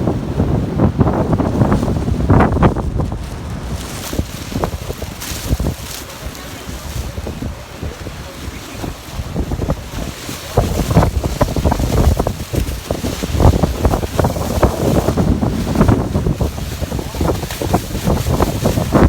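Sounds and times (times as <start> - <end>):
waterfall roaring: 0.0 - 19.0
wind buffeting microphone: 0.0 - 19.0.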